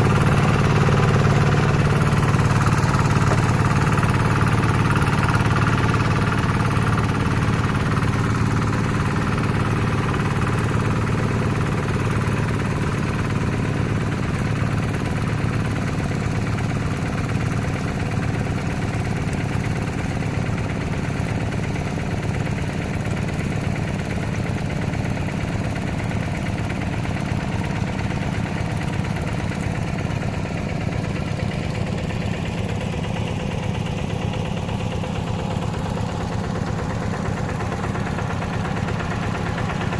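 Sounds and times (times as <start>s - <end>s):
hand tractor engine running: 0.0s - 39.9s.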